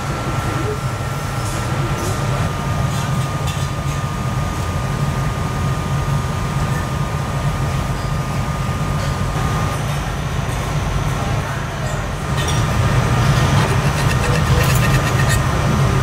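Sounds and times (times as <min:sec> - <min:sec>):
factory machinery hum: 0:00.0 - 0:16.0.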